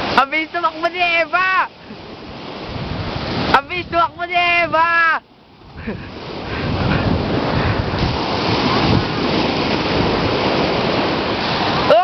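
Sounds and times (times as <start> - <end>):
surf breaking on beach: 0.0 - 12.0
wind buffeting microphone: 1.9 - 11.9.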